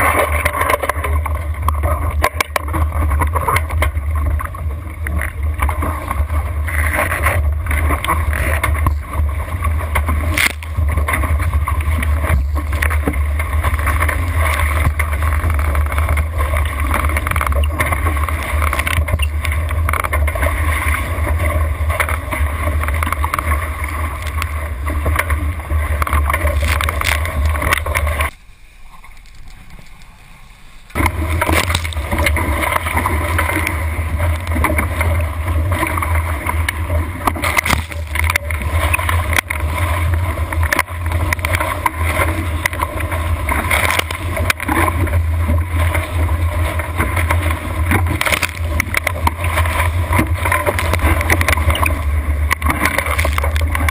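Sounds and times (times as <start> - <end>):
low rumble: 0.0 - 53.9
water rushing along a hull: 0.0 - 53.9.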